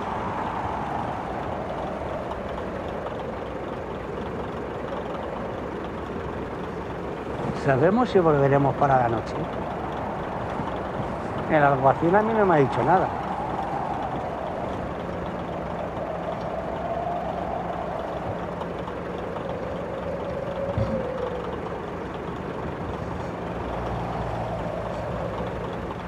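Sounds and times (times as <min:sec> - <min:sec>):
truck engine running: 0:00.0 - 0:26.0
whining tone: 0:00.0 - 0:26.0.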